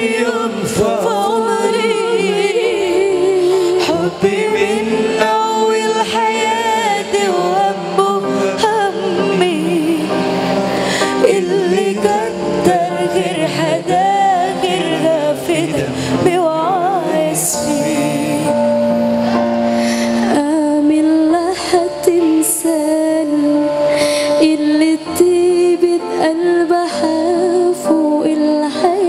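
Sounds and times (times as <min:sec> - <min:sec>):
woman singing slow song: 0:00.0 - 0:18.8, 0:20.1 - 0:29.0
sustained backing music: 0:00.0 - 0:29.0.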